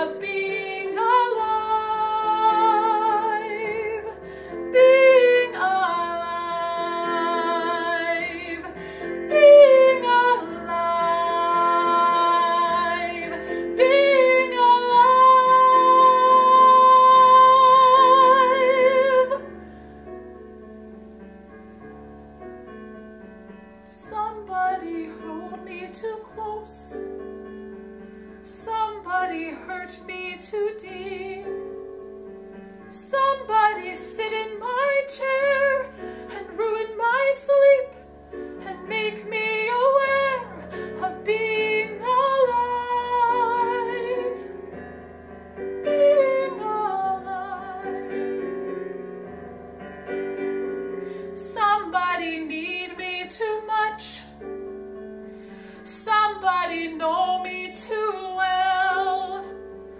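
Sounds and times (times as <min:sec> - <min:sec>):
woman singing ballad: 0:00.0 - 0:19.6, 0:23.9 - 0:27.1, 0:28.4 - 0:31.8, 0:32.9 - 0:44.7, 0:45.6 - 0:48.6, 0:51.1 - 0:54.6, 0:55.8 - 0:59.7
piano accompaniment: 0:00.0 - 0:59.9.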